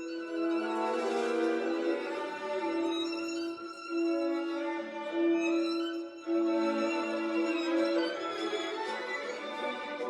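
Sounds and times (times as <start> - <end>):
violins playing waltz melody: 0.0 - 10.0.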